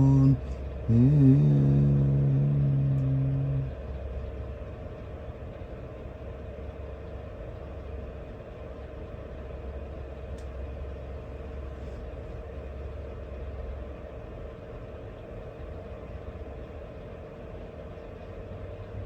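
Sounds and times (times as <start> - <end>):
constant hum: 0.0 - 19.0
steady low rumble: 0.0 - 19.0.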